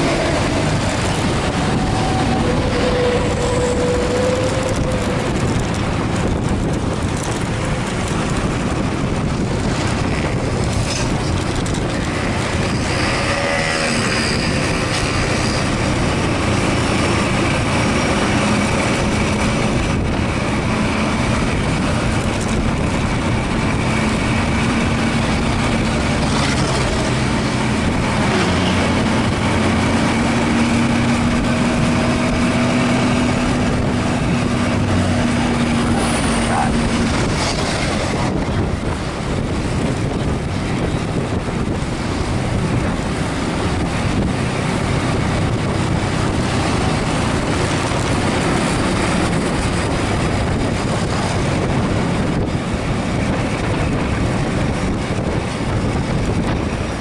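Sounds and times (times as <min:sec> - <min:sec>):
bus engine pulling hard: 0:00.0 - 0:57.0
wind buffeting microphone: 0:00.0 - 0:57.0.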